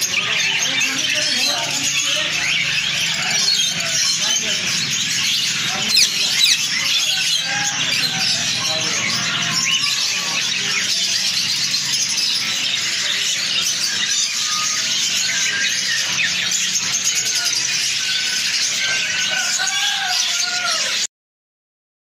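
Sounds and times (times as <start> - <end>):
cage birds chirping and chattering: 0.0 - 21.1
high squealing bird calls: 0.0 - 21.1.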